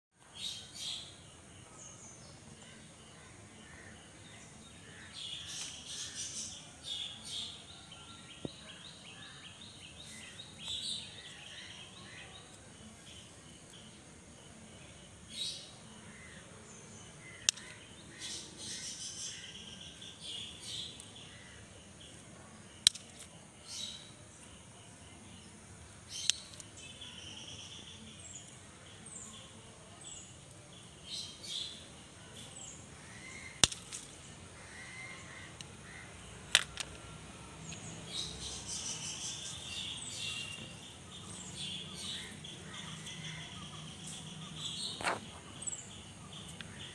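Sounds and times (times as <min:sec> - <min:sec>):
birds chirping: 0:00.2 - 0:46.9.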